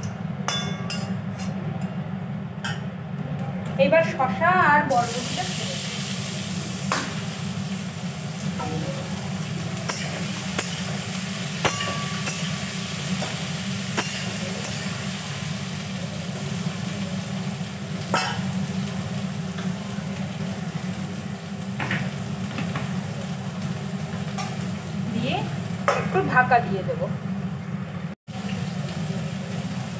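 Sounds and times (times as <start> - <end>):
vegetables sizzling in oil: 4.1 - 29.9.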